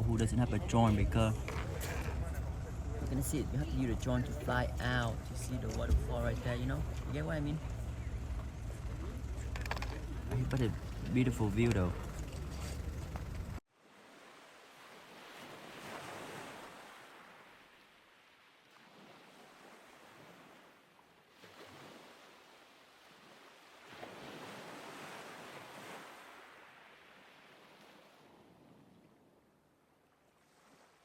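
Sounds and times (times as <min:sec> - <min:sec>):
distant water: 0:00.0 - 0:31.0.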